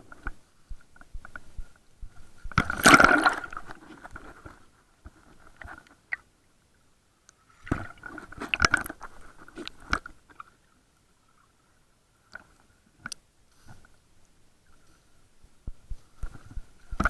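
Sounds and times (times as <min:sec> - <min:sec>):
underwater clicks and crackles: 0:00.0 - 0:06.3, 0:07.2 - 0:11.4, 0:12.2 - 0:15.0, 0:15.6 - 0:17.0.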